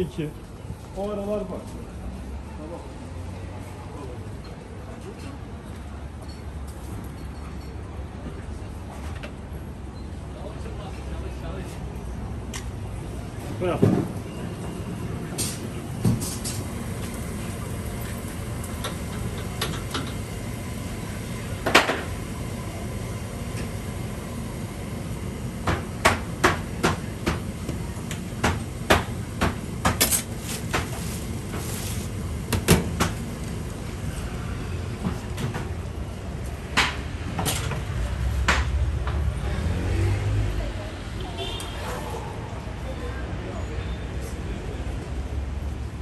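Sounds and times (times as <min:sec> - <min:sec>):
steady background noise: 0:00.0 - 0:46.0.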